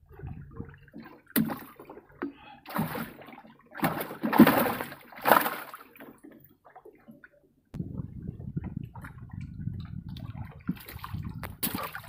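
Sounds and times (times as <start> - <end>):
water splashing: 0.0 - 7.2, 7.8 - 12.0.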